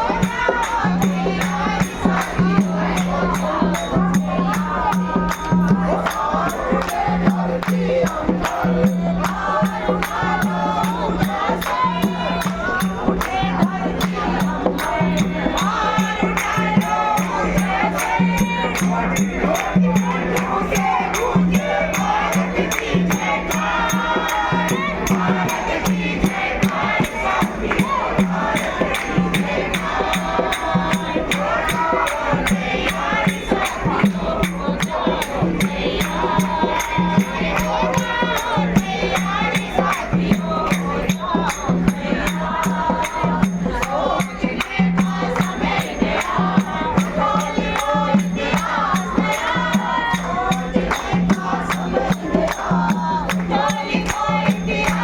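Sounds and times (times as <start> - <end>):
group of voices chanting: 0.0 - 55.0
jingling hand percussion: 0.0 - 55.0.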